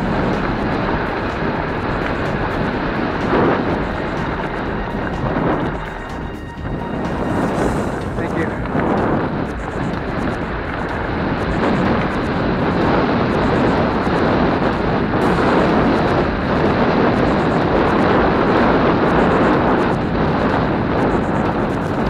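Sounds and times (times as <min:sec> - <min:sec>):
rushing wind: 0:00.0 - 0:22.0.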